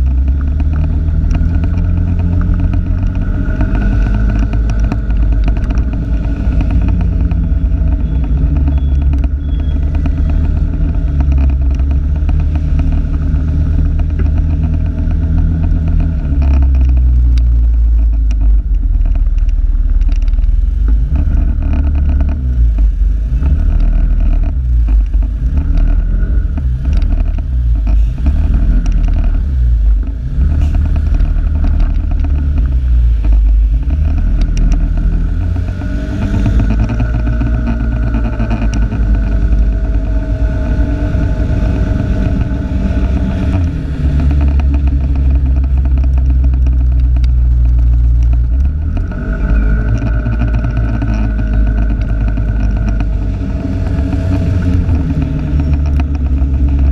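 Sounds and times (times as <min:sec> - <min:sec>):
heavy low rumble: 0:00.0 - 0:56.9
vehicle engine running: 0:00.0 - 0:56.9.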